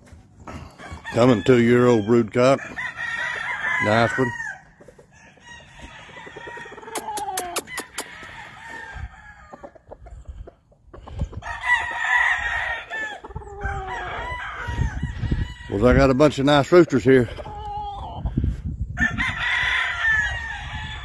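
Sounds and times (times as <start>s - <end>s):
roosters crowing: 0.4s - 10.1s, 11.1s - 18.4s, 19.0s - 21.0s.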